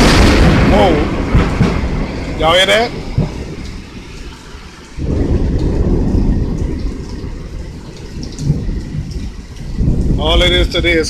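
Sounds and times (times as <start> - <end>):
heavy rain falling: 0.0 - 11.0
thunder rumbling: 0.0 - 11.0.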